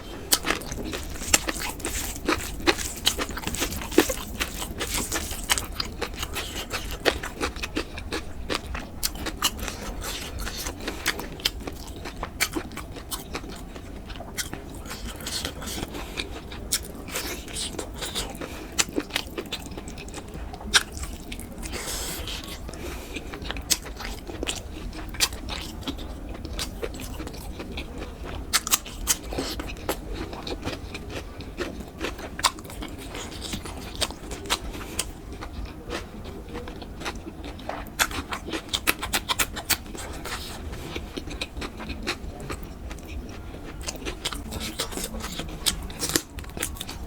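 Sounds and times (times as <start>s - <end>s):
chewing and biting: 0.0s - 47.0s.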